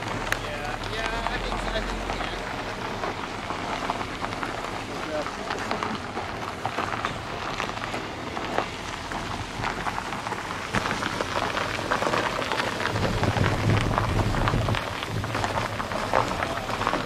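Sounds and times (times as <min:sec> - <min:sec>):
footsteps on gravel: 0:00.0 - 0:17.0
tyres crunching on gravel: 0:00.0 - 0:17.0.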